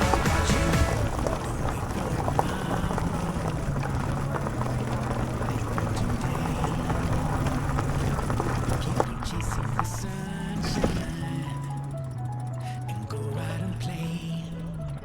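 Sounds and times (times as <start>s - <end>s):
electric bike humming: 0.0s - 15.0s.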